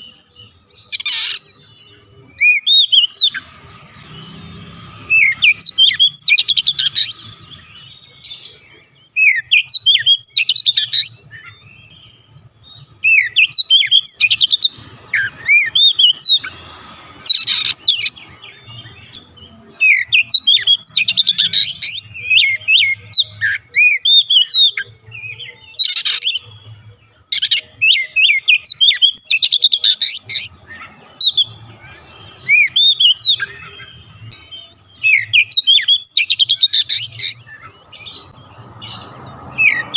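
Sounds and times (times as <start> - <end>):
bird singing whistled notes: 0.0 - 16.6, 17.2 - 39.9.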